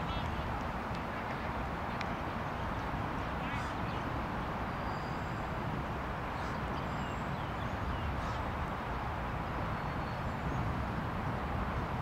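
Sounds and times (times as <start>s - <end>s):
outdoor background rumble and hiss: 0.0s - 12.0s.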